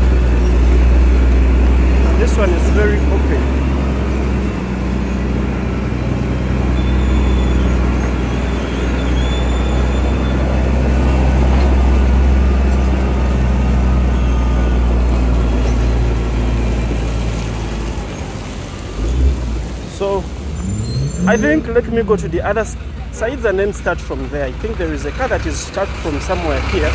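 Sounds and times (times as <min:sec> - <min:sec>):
large engine rumbling: 0:00.0 - 0:26.9.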